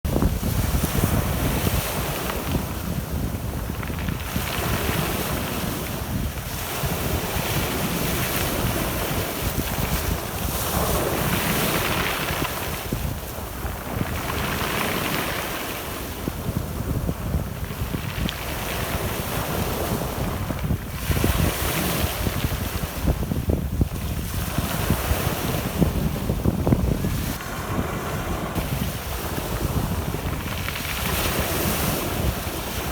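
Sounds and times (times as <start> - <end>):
wind rumbling on microphone: 0.0 - 32.9
sea waves breaking on shore: 0.1 - 32.9.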